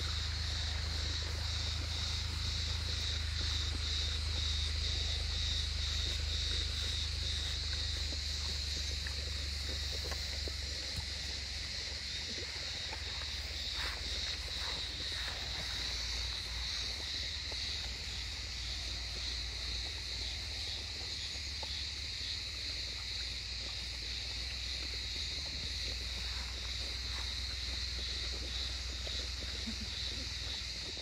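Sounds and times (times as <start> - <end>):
puppies chewing and lapping: 0.0 - 31.0.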